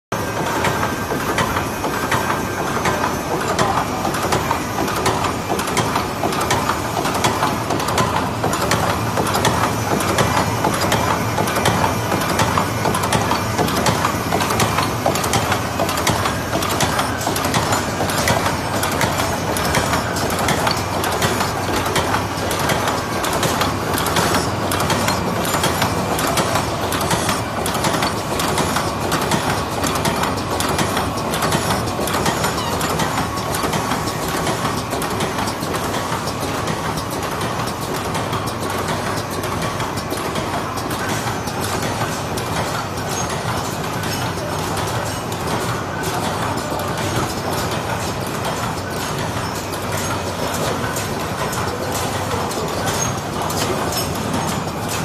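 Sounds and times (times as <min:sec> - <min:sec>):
machine clattering: 0:00.2 - 0:55.0.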